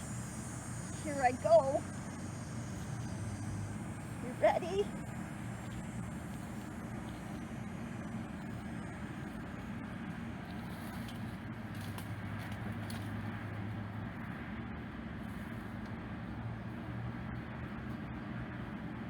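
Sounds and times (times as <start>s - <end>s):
low rumble of road traffic: 0.0s - 19.0s.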